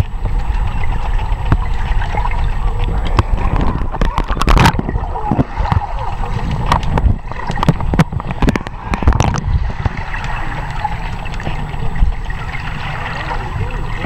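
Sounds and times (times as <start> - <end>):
underwater clicks and pops: 0.0 - 12.3
muffled underwater rumble and hiss: 0.0 - 14.0.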